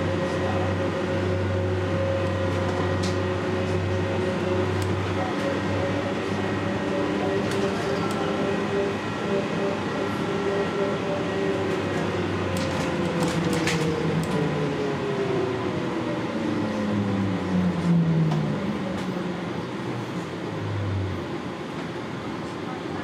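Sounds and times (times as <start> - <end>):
trolleybus electric drive whine: 0.0 - 23.0.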